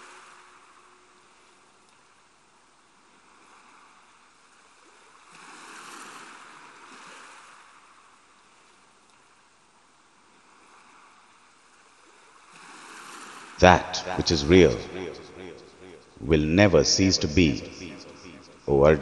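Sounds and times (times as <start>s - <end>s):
faint rushing water: 0.0s - 16.2s.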